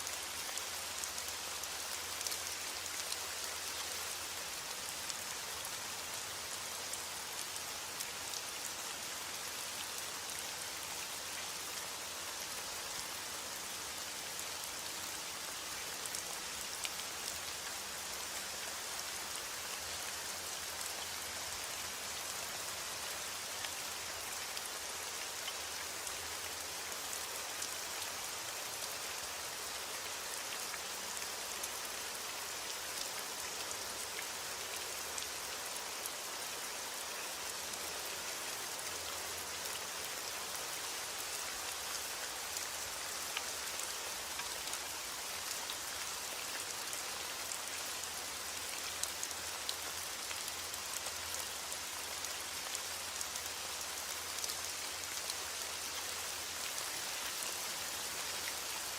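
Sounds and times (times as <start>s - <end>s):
heavy rain on a surface: 0.0s - 58.9s.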